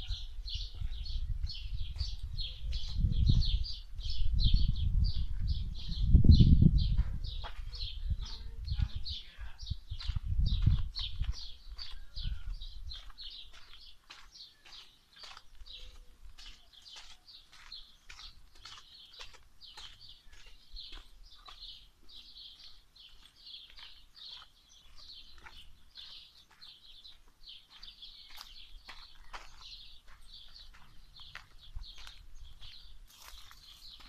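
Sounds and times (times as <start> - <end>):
footsteps on dirt path: 0.0 - 6.0, 6.8 - 34.0.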